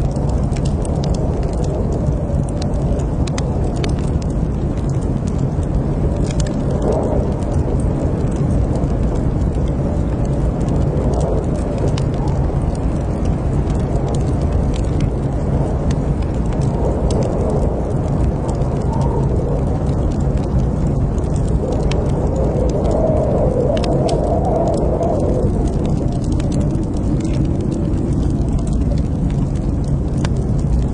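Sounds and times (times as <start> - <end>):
fire crackling in a fireplace: 0.0 - 30.9.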